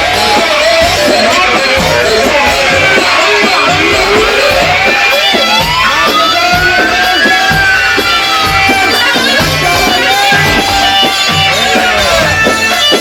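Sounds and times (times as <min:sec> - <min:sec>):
fast dense drum beat: 0:00.0 - 0:13.0
rising pitch glide: 0:00.0 - 0:13.0
wavering lead melody: 0:00.0 - 0:13.0.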